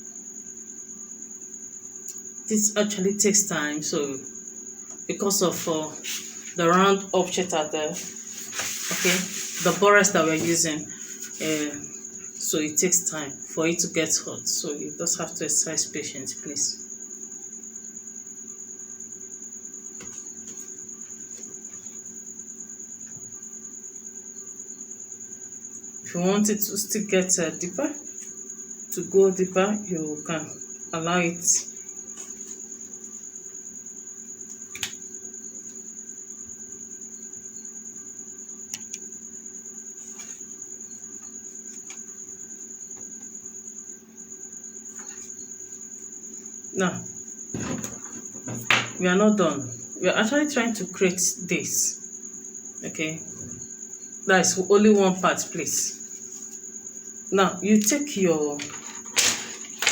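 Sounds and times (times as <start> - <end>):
cricket chirping: 0.0 - 59.9
faint steady hum: 0.0 - 59.9.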